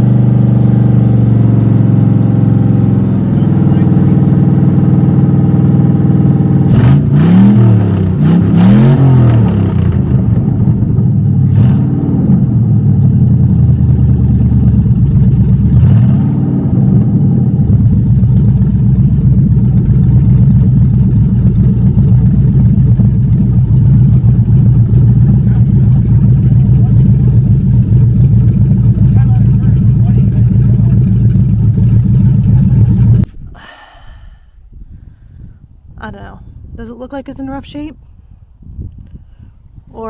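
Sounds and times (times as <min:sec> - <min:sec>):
car engine revving and idling: 0:00.0 - 0:33.3.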